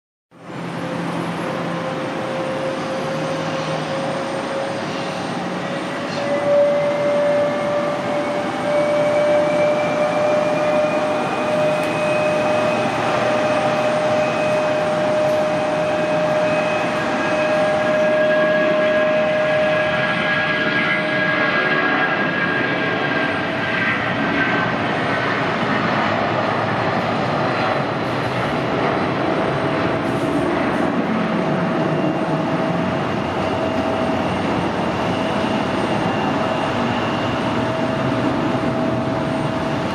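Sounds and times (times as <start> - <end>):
jet engines whining: 0.4 - 39.9.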